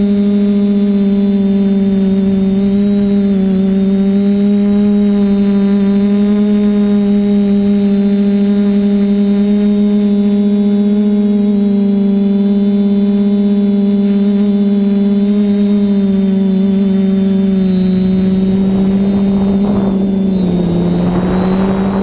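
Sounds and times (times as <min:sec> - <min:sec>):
quadcopter motors humming: 0:00.0 - 0:22.0.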